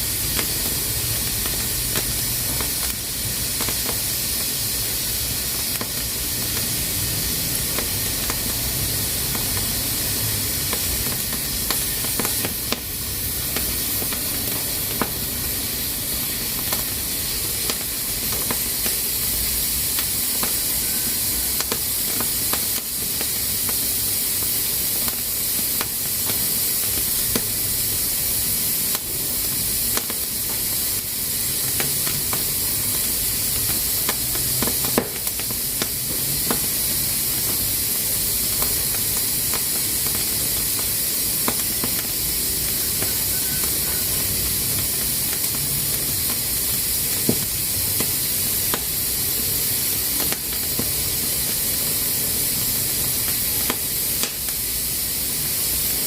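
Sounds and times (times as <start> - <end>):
pressure cooker steam hissing: 0.0 - 56.0.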